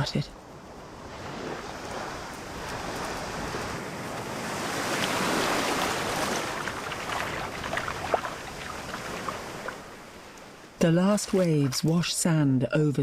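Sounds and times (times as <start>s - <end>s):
wave washing up beach: 0.8s - 11.9s.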